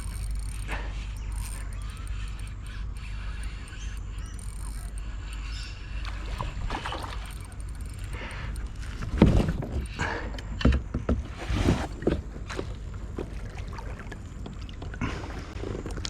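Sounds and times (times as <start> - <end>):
water splashing around kayak: 0.0 - 16.0.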